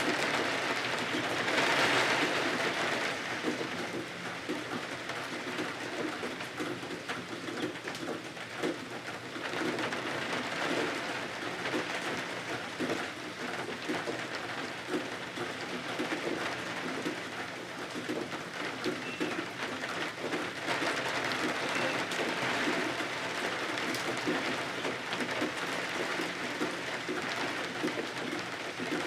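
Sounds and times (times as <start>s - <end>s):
steady rain pattering: 0.0s - 29.0s.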